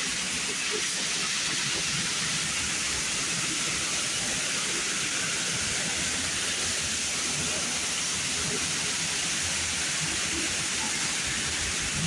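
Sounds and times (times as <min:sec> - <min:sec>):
high-pressure water spray hissing: 0:00.0 - 0:12.0.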